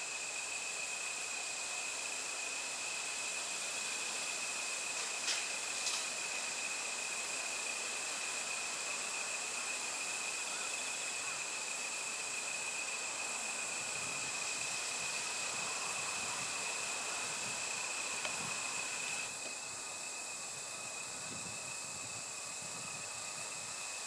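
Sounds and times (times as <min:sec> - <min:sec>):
insects droning high-pitched: 0:00.0 - 0:24.0.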